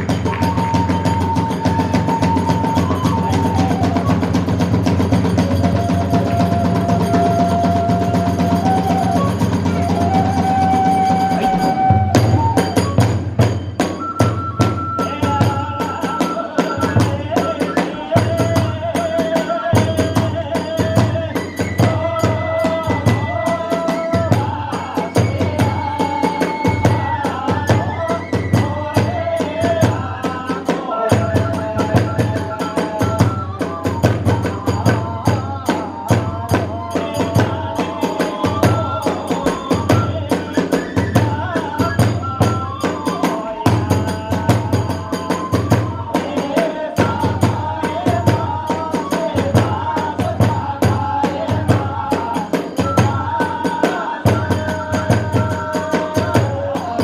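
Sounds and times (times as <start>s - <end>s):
bamboo flute melody: 0.0s - 57.0s
big drum beating: 0.0s - 57.0s.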